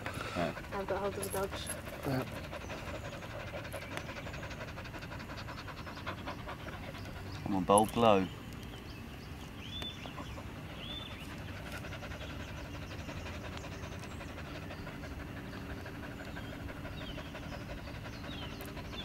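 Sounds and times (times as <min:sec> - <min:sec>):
dog panting: 0:00.0 - 0:08.4, 0:09.9 - 0:19.0.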